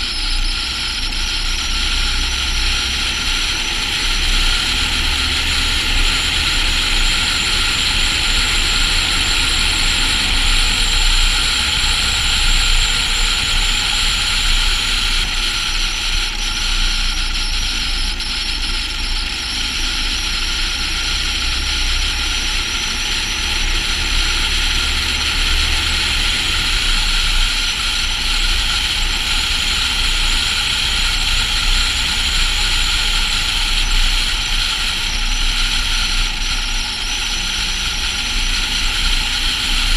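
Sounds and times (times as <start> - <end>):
diesel truck engine drone: 0.0 - 39.9
road and wind noise: 0.0 - 39.9.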